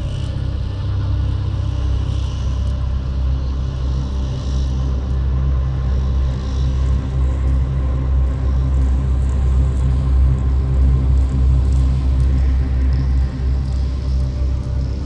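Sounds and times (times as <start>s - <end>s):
deep sci-fi hum with tones: 0.0s - 15.0s.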